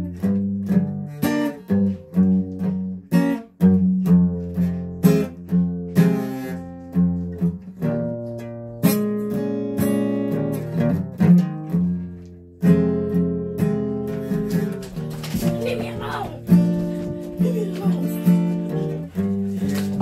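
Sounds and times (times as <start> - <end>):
guitar strumming chords: 0.0 - 20.0.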